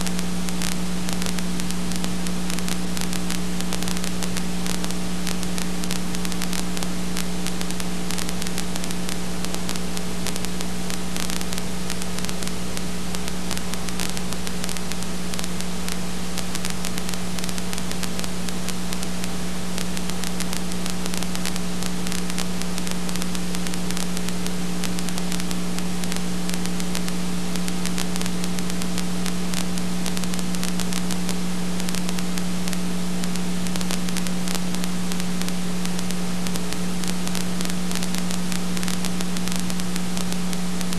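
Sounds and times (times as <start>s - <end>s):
electrical hum with hiss and crackle: 0.0s - 40.9s.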